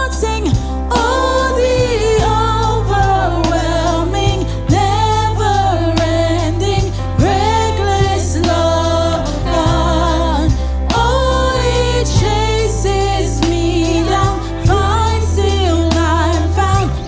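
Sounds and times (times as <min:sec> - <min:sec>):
bass: 0:00.0 - 0:17.0
people singing worship song: 0:00.0 - 0:17.0.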